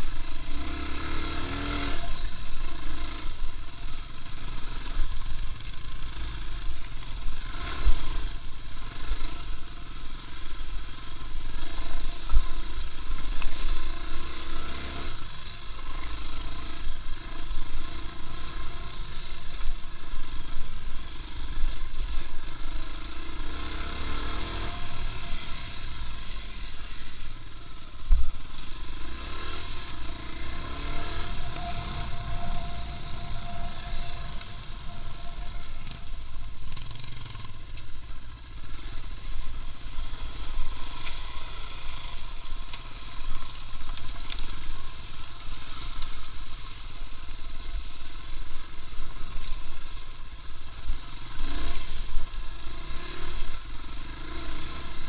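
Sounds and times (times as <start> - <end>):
vehicle engine and rumble: 0.0 - 55.0.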